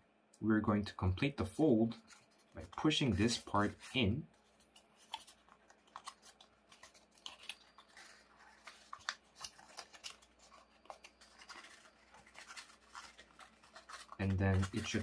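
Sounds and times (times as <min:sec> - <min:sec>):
paper crinkling: 0:01.6 - 0:15.0.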